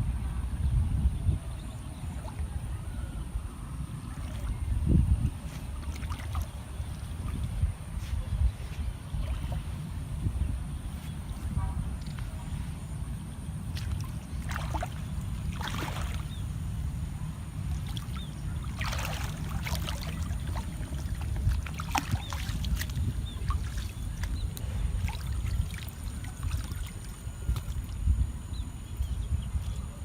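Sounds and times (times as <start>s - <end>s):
water sloshing and splashing: 3.9s - 28.2s.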